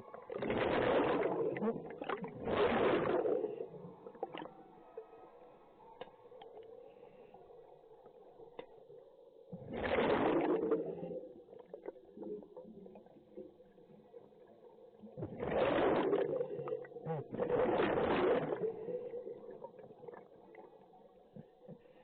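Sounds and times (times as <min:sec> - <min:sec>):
breath and bubbles underwater: 0:00.0 - 0:22.0.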